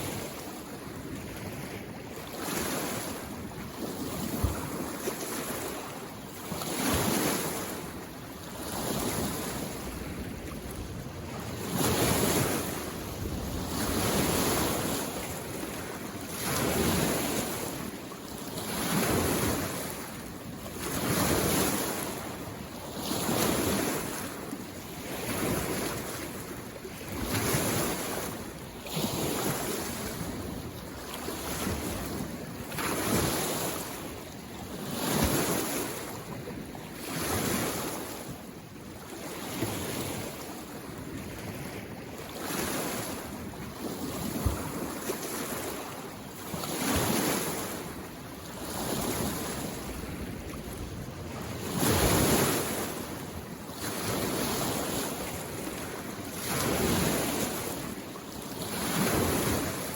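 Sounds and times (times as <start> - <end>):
small waves washing ashore: 0.0 - 59.9.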